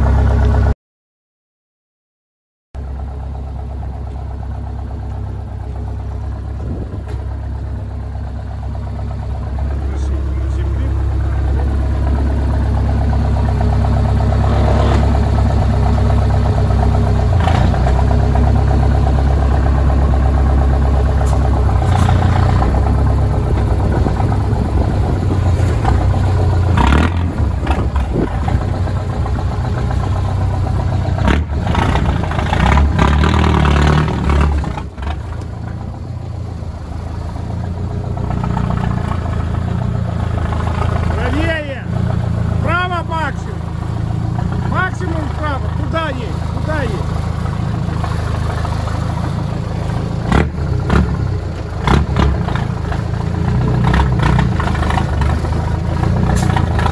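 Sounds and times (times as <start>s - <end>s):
engine clatter: 0.0s - 0.7s, 2.8s - 56.9s
truck engine running: 0.0s - 0.7s, 2.8s - 56.9s.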